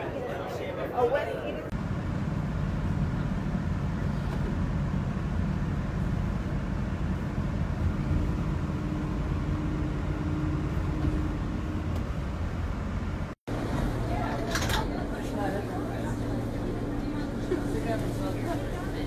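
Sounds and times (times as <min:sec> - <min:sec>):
vehicle cabin rumble: 0:01.7 - 0:19.0.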